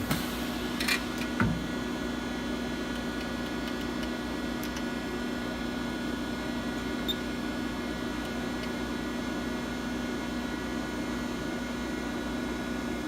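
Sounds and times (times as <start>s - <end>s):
machining center hum: 0.0s - 13.0s.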